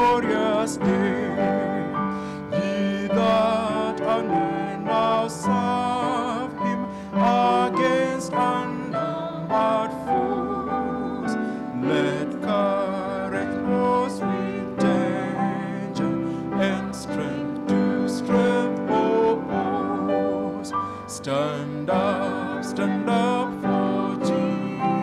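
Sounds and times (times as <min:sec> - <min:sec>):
woman and man singing: 0:00.0 - 0:25.0.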